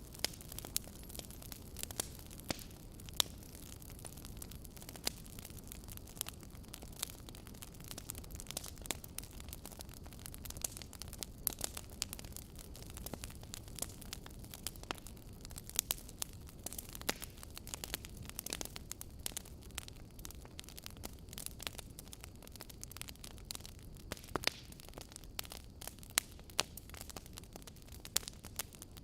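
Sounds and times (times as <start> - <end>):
fire crackles and pops: 0.0 - 29.0
wood fire rumble and hiss: 0.0 - 29.0.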